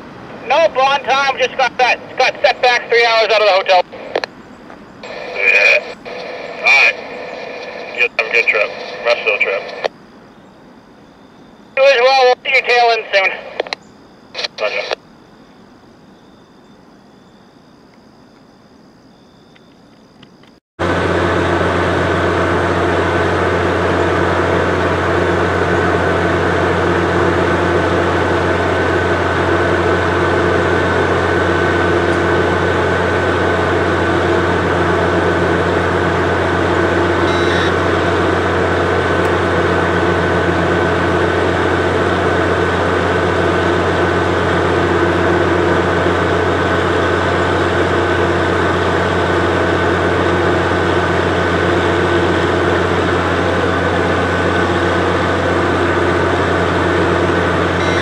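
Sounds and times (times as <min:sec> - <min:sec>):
diesel locomotive engine droning: 0:00.0 - 0:58.0
high whine: 0:00.0 - 0:58.0.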